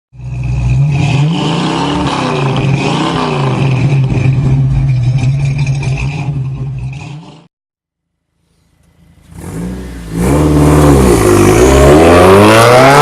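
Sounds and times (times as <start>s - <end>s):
car engine revving: 0.2s - 7.5s, 8.6s - 13.0s.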